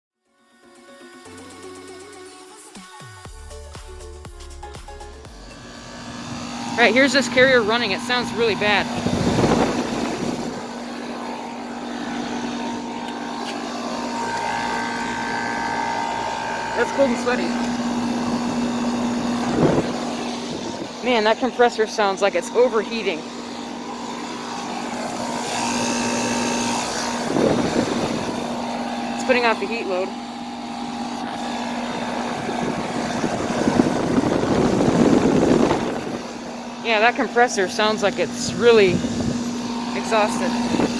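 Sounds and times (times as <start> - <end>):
compressor hum: 3.9 - 40.9
condenser fan rushing: 5.0 - 40.9
high whine: 5.1 - 40.9.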